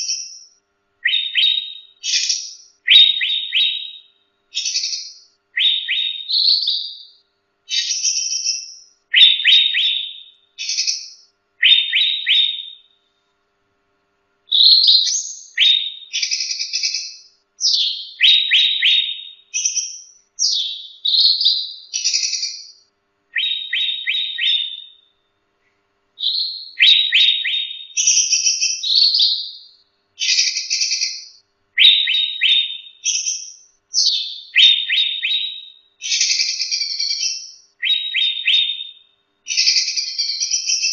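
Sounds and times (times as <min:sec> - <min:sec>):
bulbul singing whistled phrases: 0:00.0 - 0:13.0, 0:14.5 - 0:25.2, 0:26.2 - 0:40.9.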